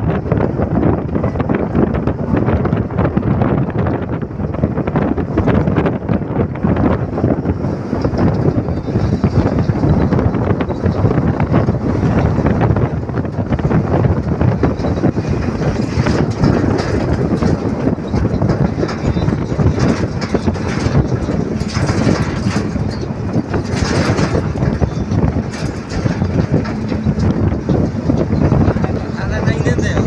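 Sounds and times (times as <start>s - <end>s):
constant rattle: 0.0s - 30.0s
truck engine and road rumble: 0.0s - 30.0s.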